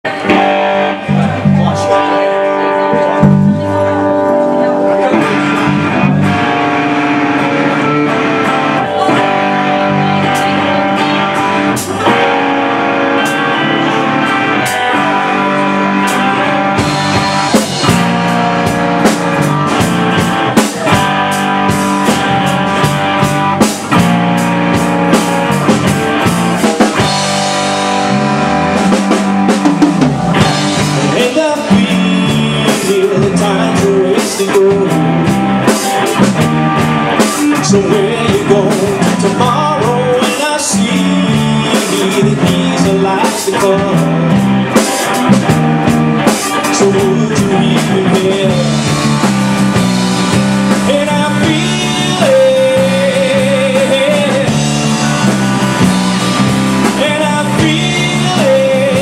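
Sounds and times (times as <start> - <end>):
drum kit beat: 0.0 - 59.0
electric guitar chords: 0.0 - 59.0.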